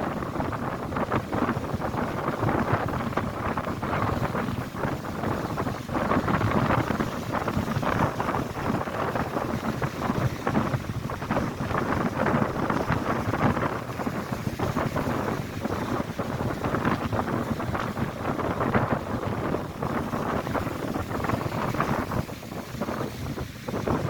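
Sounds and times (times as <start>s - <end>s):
gusty wind buffeting microphone: 0.0s - 24.0s
lake waves breaking on shore: 0.0s - 24.0s.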